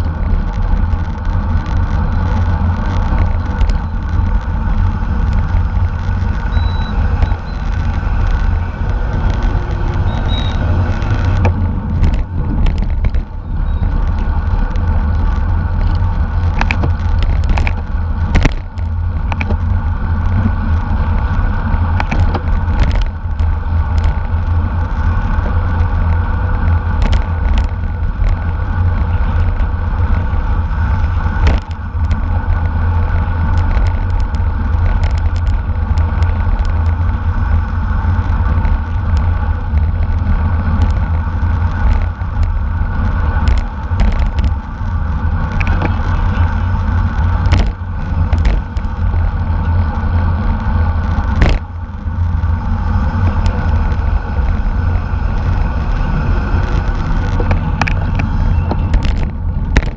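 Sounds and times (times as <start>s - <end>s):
bike clicks and knocks: 0.0s - 50.4s, 51.0s - 59.9s
wind rumble on microphone: 0.0s - 59.9s.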